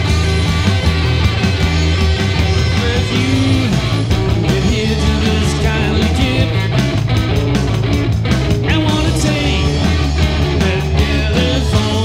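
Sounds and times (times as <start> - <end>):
bass line: 0.0 - 12.0
drum beat: 0.0 - 12.0
electric guitar: 0.0 - 12.0.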